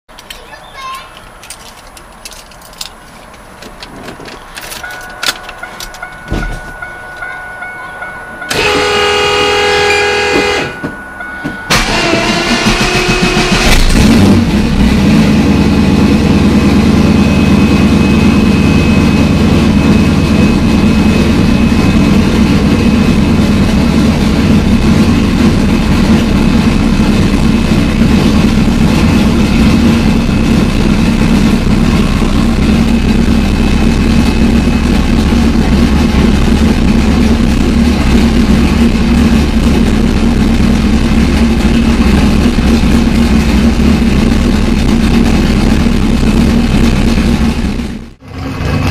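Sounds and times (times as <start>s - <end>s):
car engine idling: 0.1s - 48.9s.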